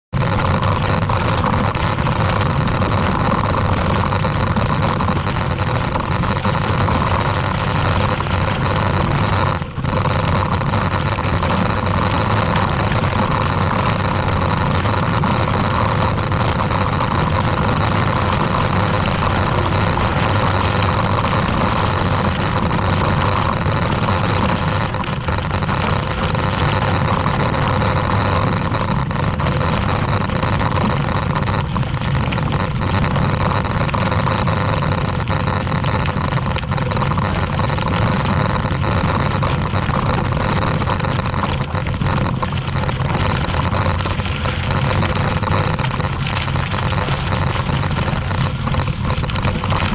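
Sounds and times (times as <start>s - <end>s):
bike rolling over gravel: 0.2s - 49.9s.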